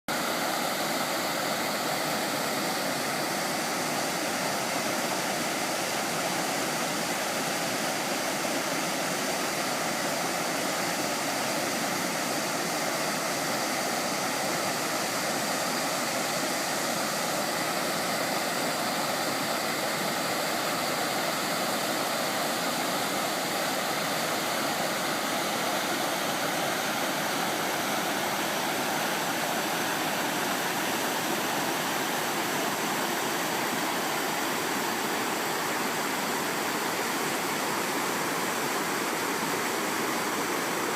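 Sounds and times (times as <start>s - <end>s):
water rushing over weir: 0.1s - 40.9s.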